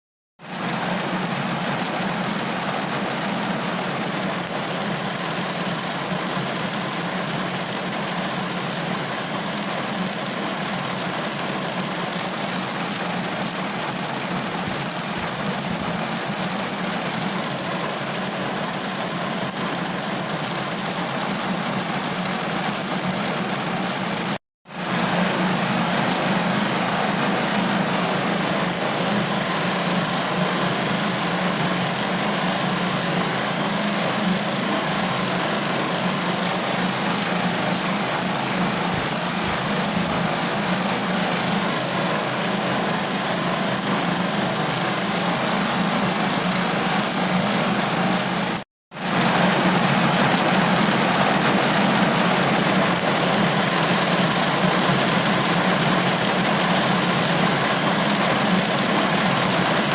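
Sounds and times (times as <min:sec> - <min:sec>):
rain on a car roof: 0:00.4 - 0:59.9.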